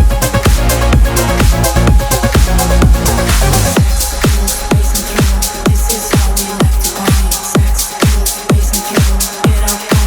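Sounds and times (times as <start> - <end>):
house music kick drum: 0.0 - 10.0
off-beat hi-hats: 0.0 - 10.0.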